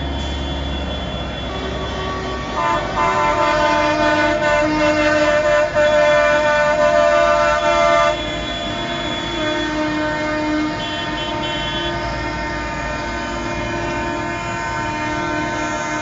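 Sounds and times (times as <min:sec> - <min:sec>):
diesel engine rumble: 0:00.0 - 0:16.0
tractor horn tones: 0:00.1 - 0:16.0.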